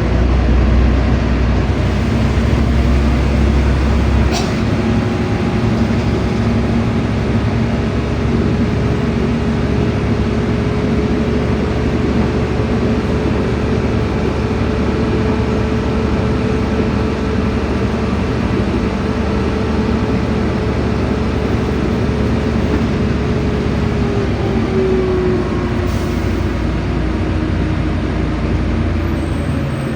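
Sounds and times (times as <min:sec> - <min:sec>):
bus drivetrain and road noise: 0:00.0 - 0:29.9.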